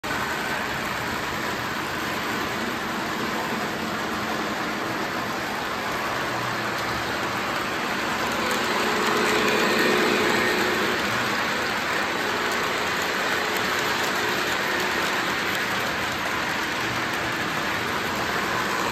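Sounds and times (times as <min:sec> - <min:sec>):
model train rumbling whir: 0:00.0 - 0:18.9.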